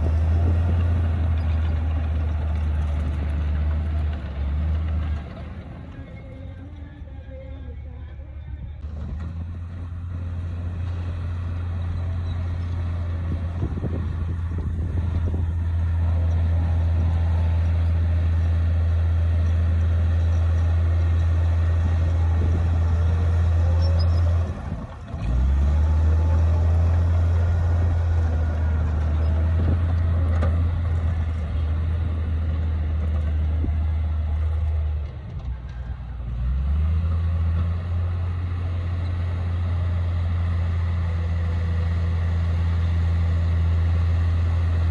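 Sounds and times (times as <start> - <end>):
bulldozer diesel engine droning: 0.0 - 44.9.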